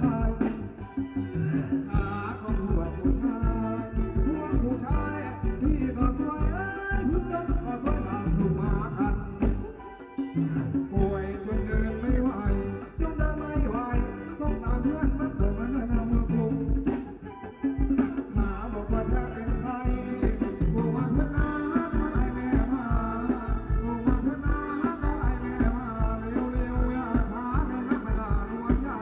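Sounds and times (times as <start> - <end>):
live dance band: 0.0 - 29.0
person singing: 0.0 - 29.0.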